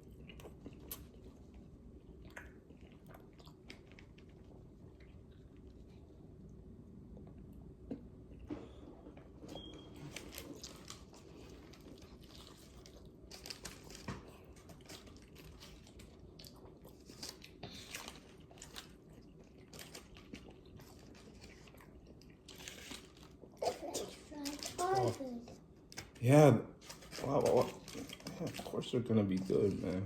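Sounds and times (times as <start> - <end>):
food crunching: 0.0 - 6.0, 9.6 - 30.0
person chewing food: 0.0 - 26.2, 26.8 - 30.0.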